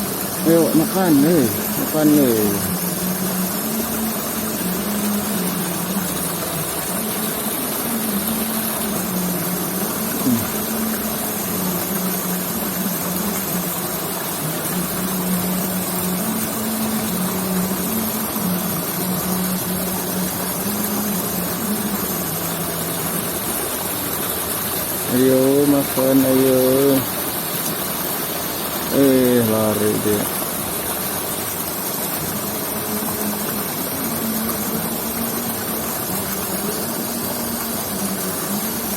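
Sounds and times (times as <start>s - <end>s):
rushing hiss: 0.0s - 38.9s
small engine running: 0.0s - 38.9s.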